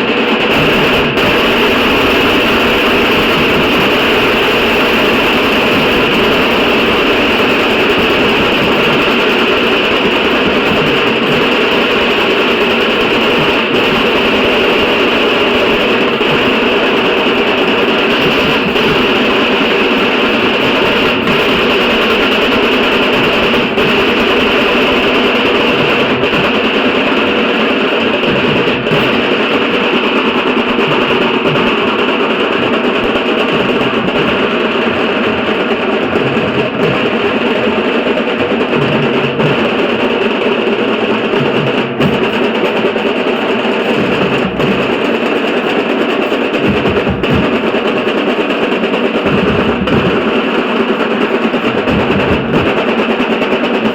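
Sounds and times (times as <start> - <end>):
drum ensemble playing loudly: 0.0 - 53.9.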